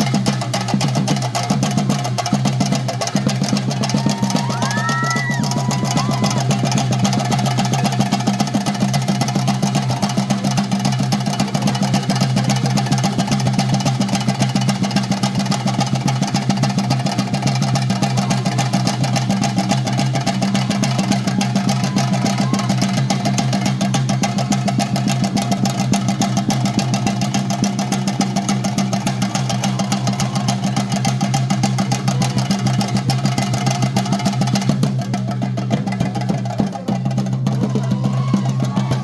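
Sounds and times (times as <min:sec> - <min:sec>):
drums played fast: 0:00.0 - 0:39.0.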